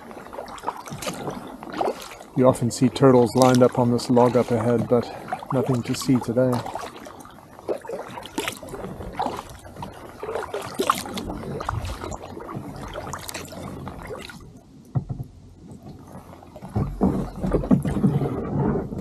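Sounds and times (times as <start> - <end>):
water dripping off paddle: 0.0 - 15.2
kayak paddle strokes in water: 0.0 - 19.0.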